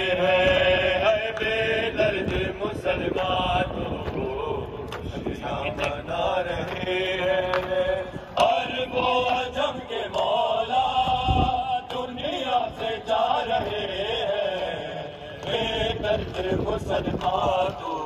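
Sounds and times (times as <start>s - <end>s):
voices chanting a lament: 0.0s - 18.0s.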